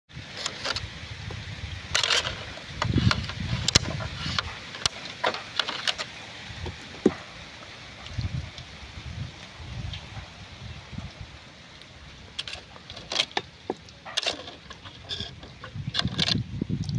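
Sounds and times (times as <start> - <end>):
water sloshing and splashing: 0.1 - 16.9
wind rumble on microphone: 0.1 - 16.9.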